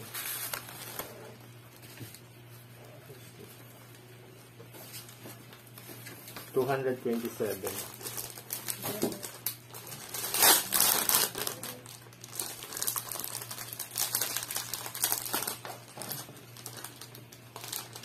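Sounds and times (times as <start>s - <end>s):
plastic packaging crinkling: 0.0s - 2.2s, 4.8s - 18.0s.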